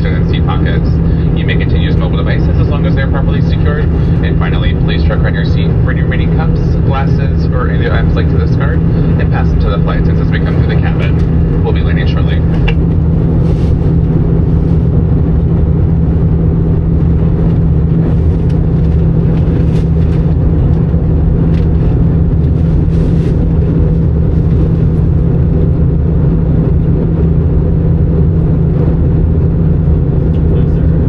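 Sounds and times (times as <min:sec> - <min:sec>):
constant low hum: 0:00.0 - 0:31.0
jet engine rumble: 0:00.0 - 0:31.0
rushing air: 0:00.0 - 0:31.0.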